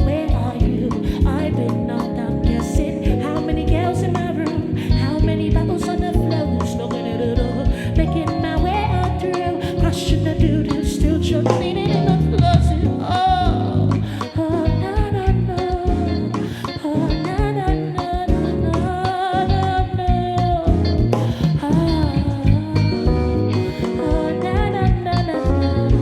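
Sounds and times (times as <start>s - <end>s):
live band playing: 0.0s - 26.0s
woman singing with vibrato: 0.0s - 26.0s.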